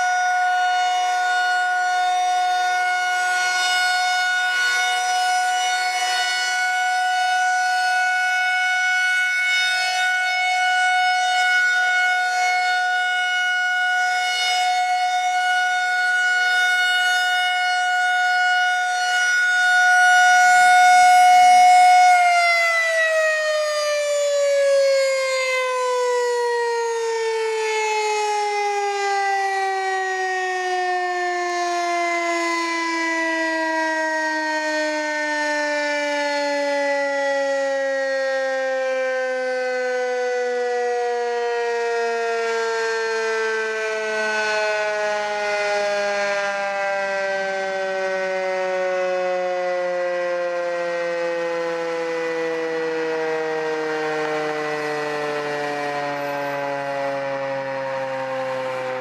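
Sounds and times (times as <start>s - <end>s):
warning siren: 0.0s - 59.0s.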